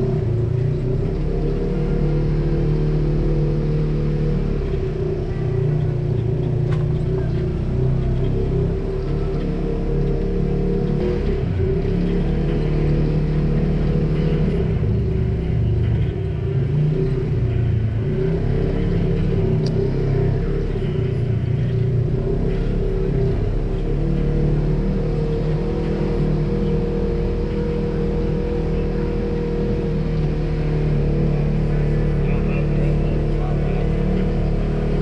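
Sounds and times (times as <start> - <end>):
off-road vehicle engine running: 0.0 - 35.0.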